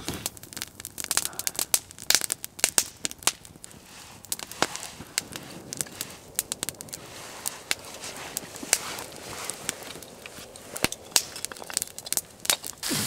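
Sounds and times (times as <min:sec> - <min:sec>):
campfire crackling: 0:00.0 - 0:13.0
fire popping: 0:00.0 - 0:13.0
soft hiss: 0:00.0 - 0:13.0.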